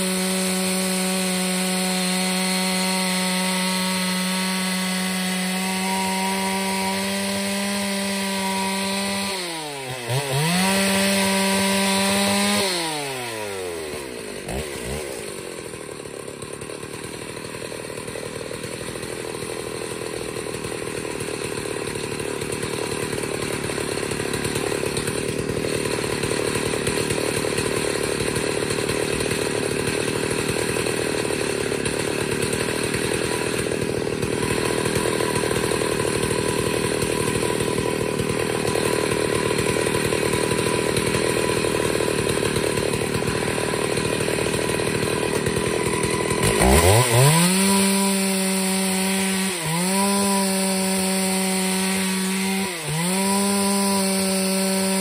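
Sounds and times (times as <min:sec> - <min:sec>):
chainsaw cutting a log: 0:00.0 - 0:55.0.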